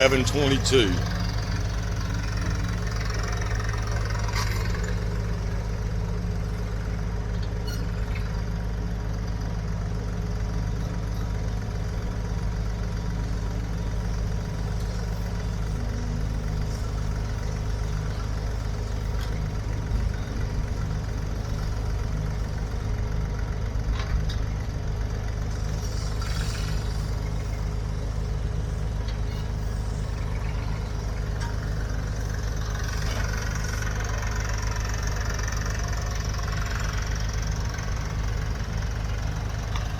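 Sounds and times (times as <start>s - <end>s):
machine engine idling: 0.0s - 39.9s.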